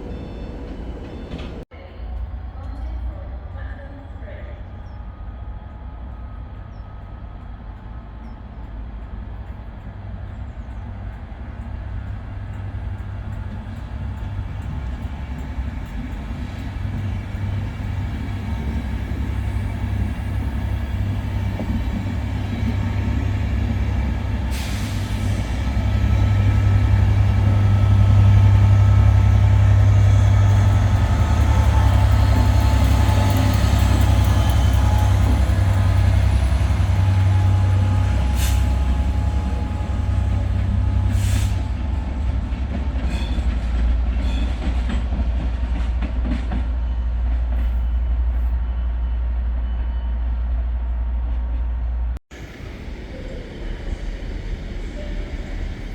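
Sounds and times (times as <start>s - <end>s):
train rumbling: 0.0s - 55.9s.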